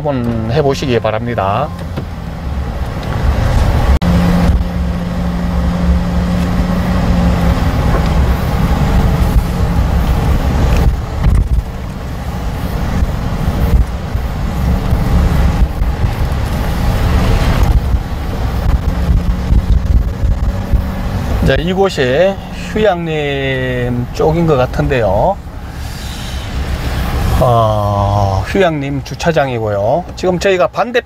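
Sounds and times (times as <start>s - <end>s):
road rumble: 0.0s - 31.0s
vehicle engine running: 0.2s - 29.2s.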